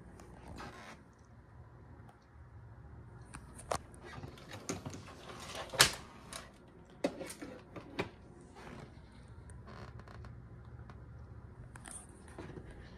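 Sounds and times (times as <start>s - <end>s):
faint low hum: 0.0s - 12.9s.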